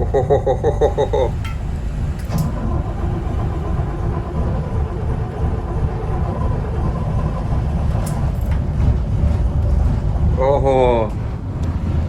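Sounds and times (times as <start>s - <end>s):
diesel engine idling: 0.0s - 11.1s.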